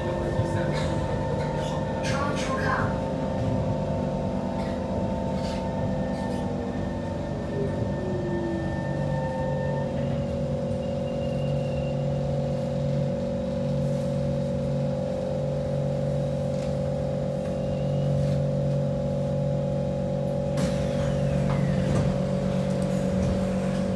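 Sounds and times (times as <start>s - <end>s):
train motors humming: 0.0s - 23.9s
train running noise: 0.0s - 23.9s.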